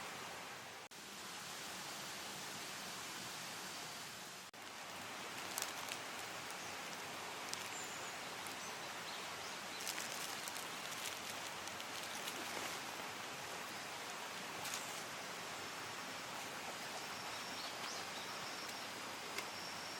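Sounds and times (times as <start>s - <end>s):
mountain stream rushing: 0.0s - 19.9s.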